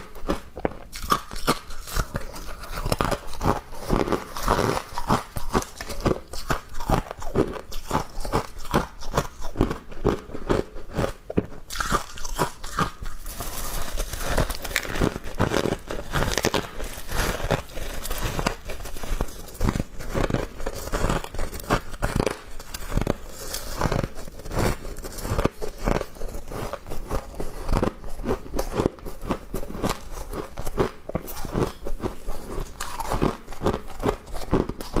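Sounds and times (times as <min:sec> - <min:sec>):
chewing ice crunches: 0:00.0 - 0:35.0.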